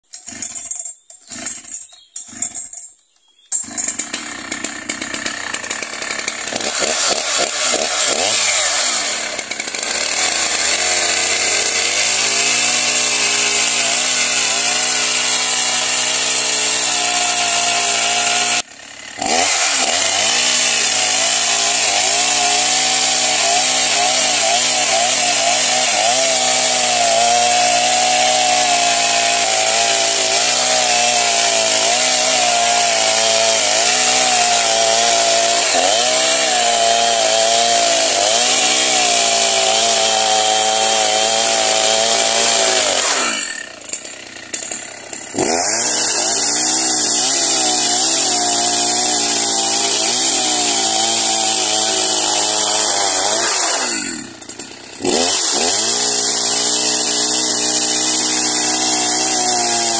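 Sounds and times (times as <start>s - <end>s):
chainsaw ripping a log: 0.0s - 2.9s, 3.5s - 59.9s.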